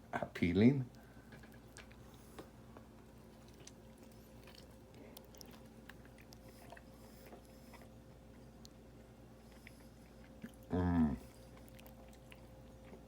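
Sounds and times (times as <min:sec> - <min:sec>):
low steady hum: 0:00.0 - 0:13.0
person chewing food: 0:00.9 - 0:13.0.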